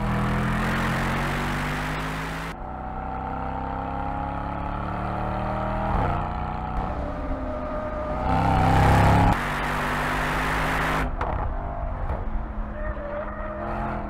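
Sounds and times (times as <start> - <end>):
car engine accelerating: 0.0 - 12.7.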